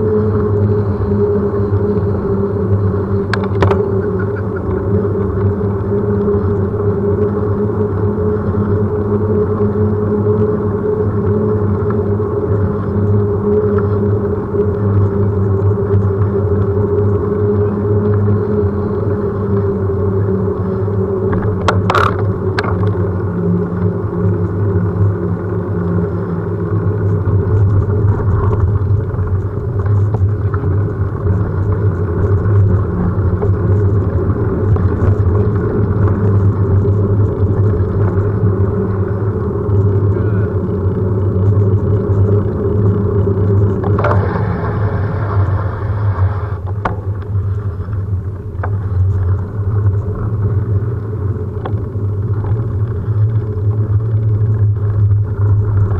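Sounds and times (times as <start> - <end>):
tyre noise on asphalt: 0.0 - 55.9
wind buffeting: 0.0 - 55.9.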